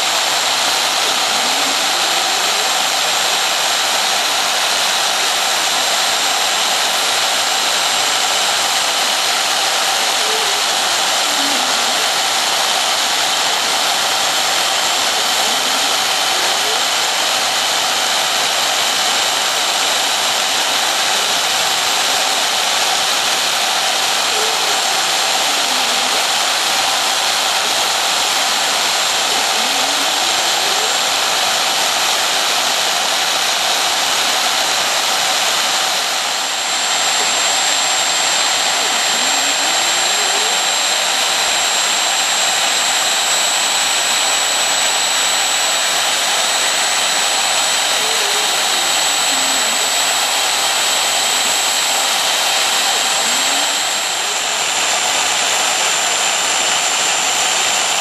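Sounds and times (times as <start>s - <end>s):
router spindle motor whine: 0.0s - 58.0s.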